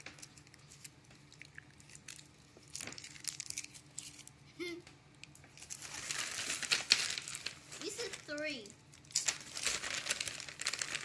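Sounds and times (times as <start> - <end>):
plastic packaging crinkling: 0.0 - 4.4, 5.2 - 11.0.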